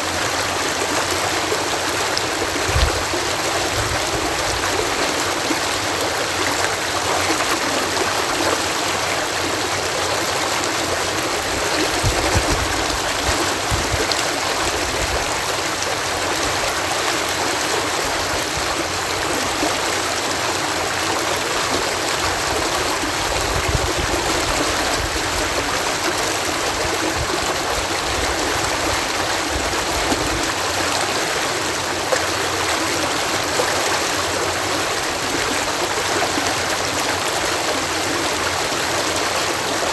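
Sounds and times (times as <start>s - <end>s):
water cascading over lock: 0.0s - 39.9s.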